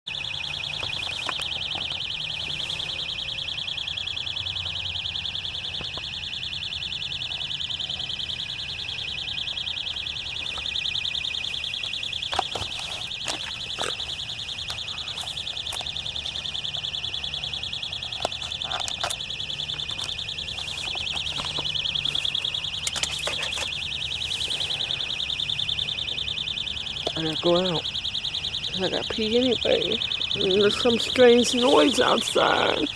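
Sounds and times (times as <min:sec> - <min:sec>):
high-pitched electrical buzz: 0:00.1 - 0:32.9.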